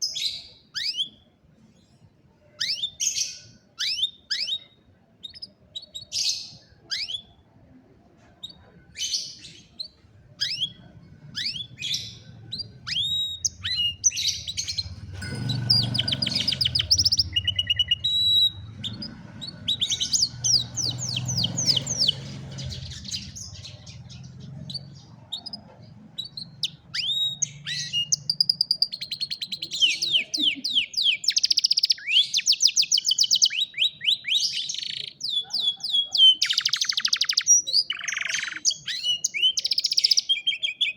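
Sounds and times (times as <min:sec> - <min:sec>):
canary singing: 0:00.0 - 0:01.4, 0:02.5 - 0:40.9.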